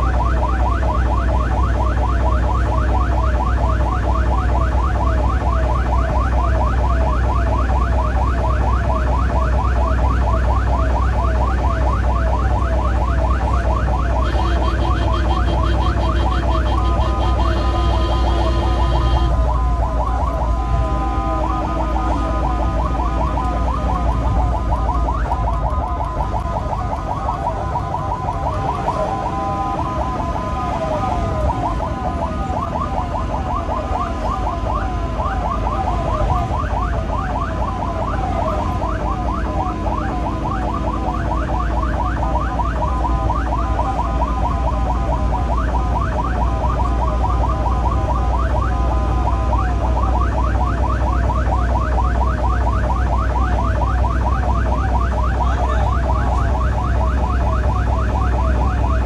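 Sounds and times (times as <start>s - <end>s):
ambulance siren fast yelp: 0.0s - 59.0s
engine and road rumble: 0.0s - 59.0s.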